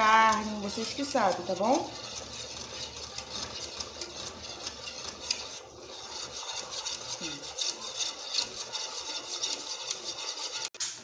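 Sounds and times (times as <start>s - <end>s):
whisk scraping metal saucepan: 0.0s - 11.0s.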